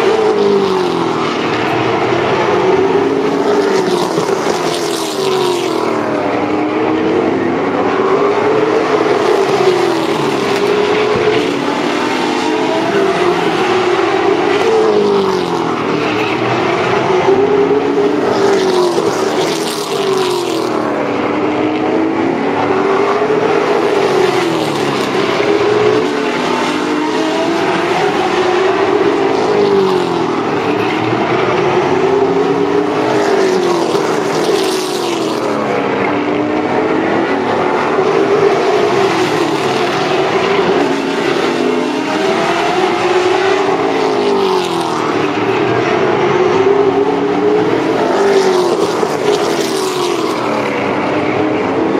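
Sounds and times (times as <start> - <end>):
race car engines: 0.0 - 51.9.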